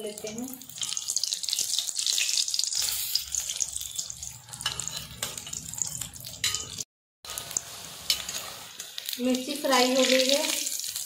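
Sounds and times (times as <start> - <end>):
deep-frying sizzle with crackles: 0.0 - 11.0.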